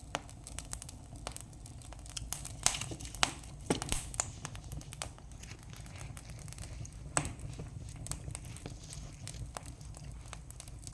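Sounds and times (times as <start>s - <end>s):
campfire crackling: 0.0s - 10.9s
sharp pops of burning wood: 0.0s - 10.9s.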